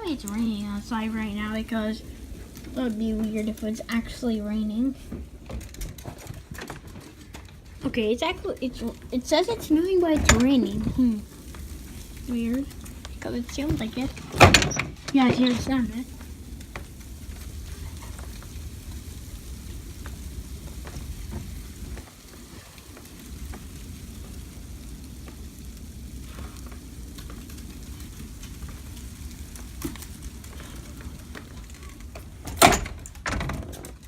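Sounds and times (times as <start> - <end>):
low rumble: 0.0 - 6.6, 7.2 - 33.4
patter of falling rain: 0.0 - 34.0.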